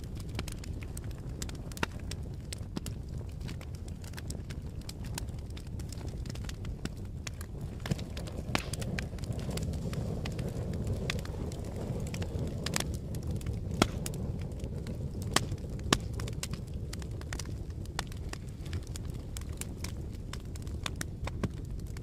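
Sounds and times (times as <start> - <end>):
fire crackling: 0.0 - 22.0
sharp pops and snaps: 0.1 - 22.0.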